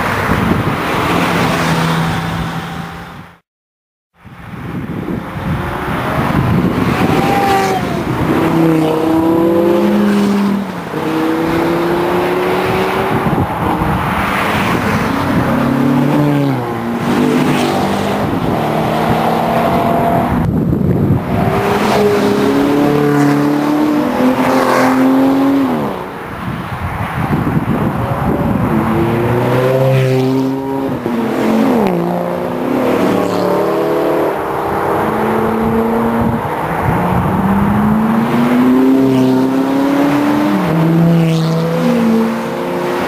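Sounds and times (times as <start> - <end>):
sports car engines revving past: 4.8 - 43.0.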